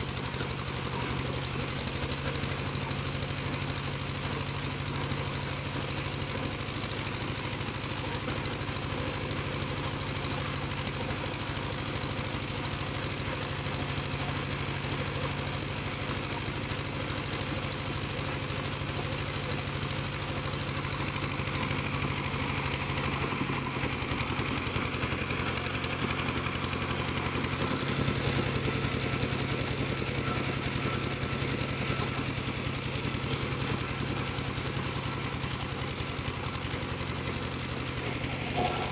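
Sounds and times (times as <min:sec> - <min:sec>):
piling rig engine running: 0:00.0 - 0:38.9.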